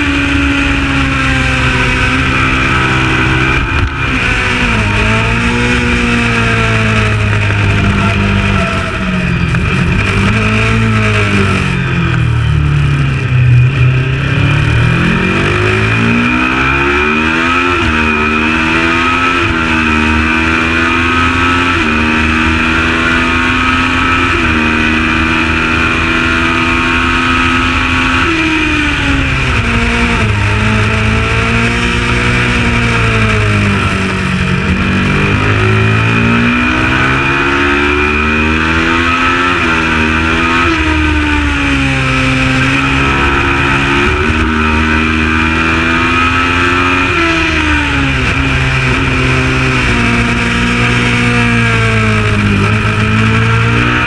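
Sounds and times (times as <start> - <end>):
race bike engine revving: 0.0 - 54.0.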